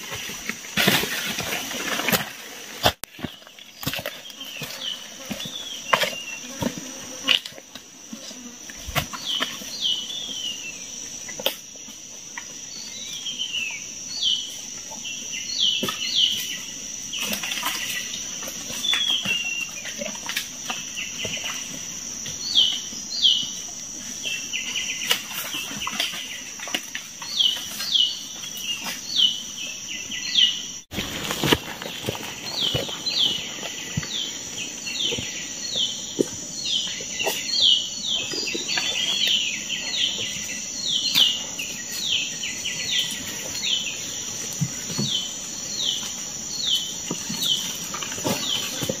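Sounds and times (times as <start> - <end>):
insect drone: 0.0 - 49.0.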